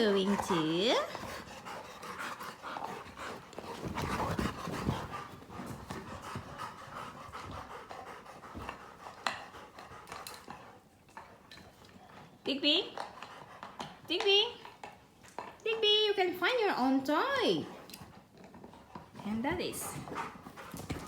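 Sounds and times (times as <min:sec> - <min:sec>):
dogs panting hard: 0:00.0 - 0:15.6, 0:17.7 - 0:21.0.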